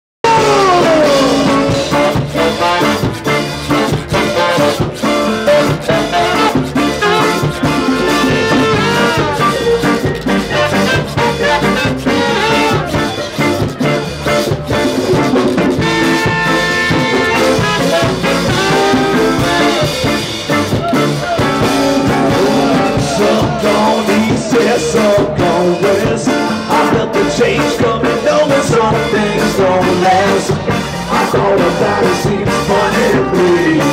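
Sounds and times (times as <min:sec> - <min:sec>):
live band playing: 0:00.2 - 0:33.9
trombone: 0:00.2 - 0:33.9.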